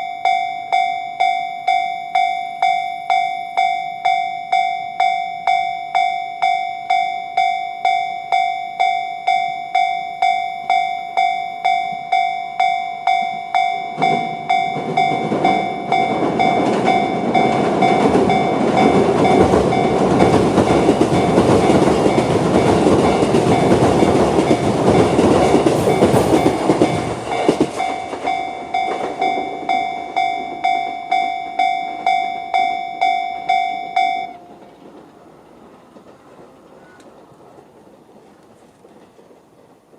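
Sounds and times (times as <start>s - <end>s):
level crossing alarm bell: 0.0s - 34.6s
train wheel and rail noise: 0.0s - 39.9s.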